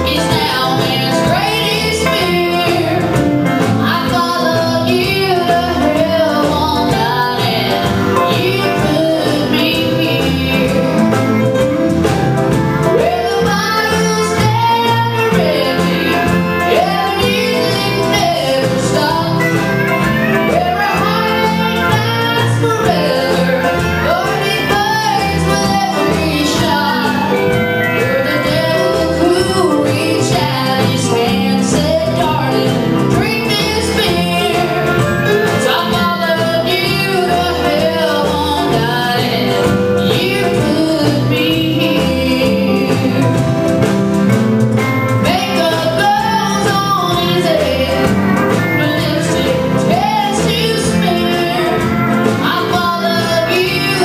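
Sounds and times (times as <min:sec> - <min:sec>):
woman singing: 0:00.0 - 0:11.8, 0:12.4 - 0:43.7, 0:45.2 - 0:54.0
drums: 0:00.0 - 0:54.0
electric guitar: 0:00.0 - 0:54.0.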